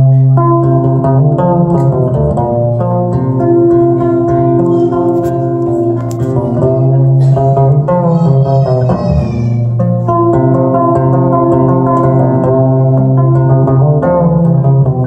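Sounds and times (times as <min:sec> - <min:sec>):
fingerpicked acoustic guitar: 0:00.0 - 0:15.0.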